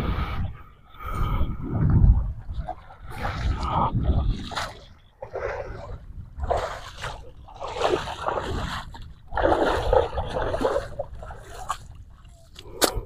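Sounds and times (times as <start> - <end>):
water splashing and sloshing: 0.9 - 13.0.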